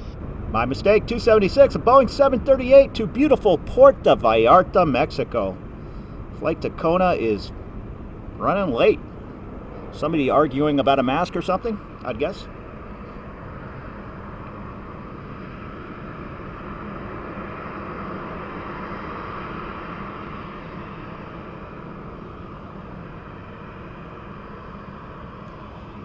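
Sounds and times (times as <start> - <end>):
distant jet engines rumbling: 0.0 - 26.0.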